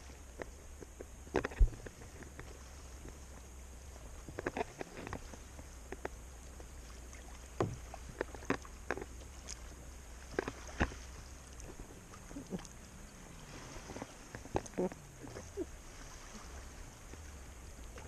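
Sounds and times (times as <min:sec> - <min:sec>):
paddle knocking and splashing: 0:00.0 - 0:18.0.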